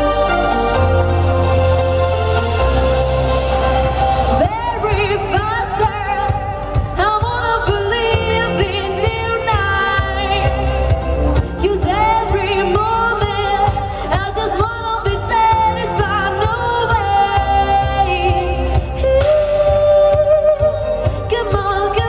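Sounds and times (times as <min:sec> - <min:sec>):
pop music with singing: 0:00.0 - 0:22.0.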